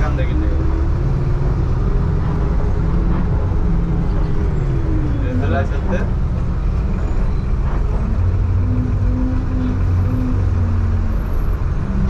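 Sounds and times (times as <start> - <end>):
bus engine running: 0.0 - 12.0
road noise: 0.0 - 12.0.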